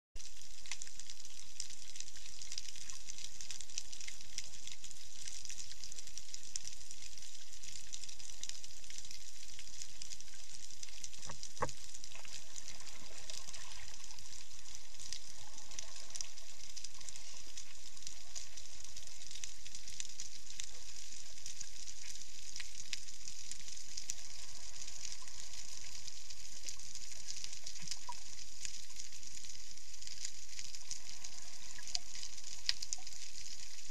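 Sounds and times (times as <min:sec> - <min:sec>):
underwater crackling hiss: 0:00.2 - 0:33.9.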